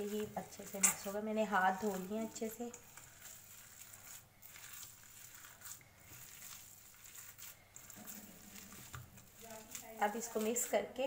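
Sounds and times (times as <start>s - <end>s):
hand kneading minced meat: 0.0s - 11.0s.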